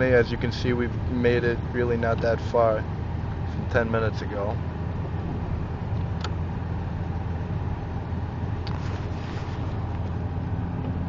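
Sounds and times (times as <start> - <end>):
engine and road rumble in car: 0.0 - 11.0.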